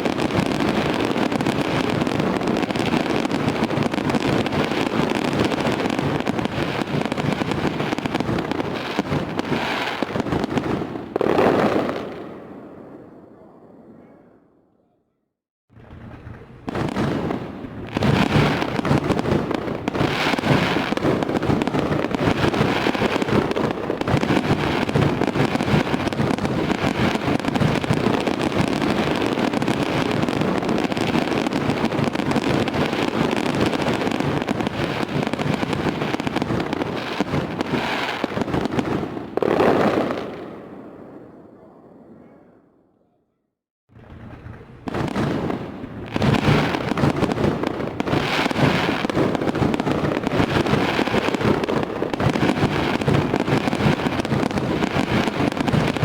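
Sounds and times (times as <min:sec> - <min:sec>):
fireworks crackling and banging: 0:00.0 - 0:13.9, 0:15.7 - 0:42.1, 0:43.9 - 0:56.0.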